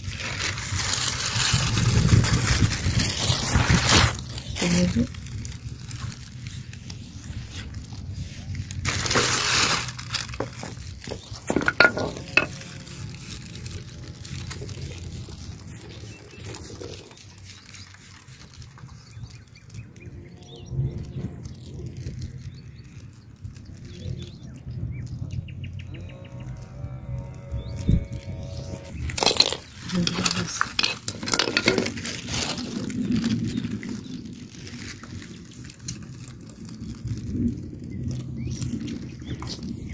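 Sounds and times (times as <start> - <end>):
pebbles scraping and clattering: 0.0 - 25.4, 26.1 - 39.9.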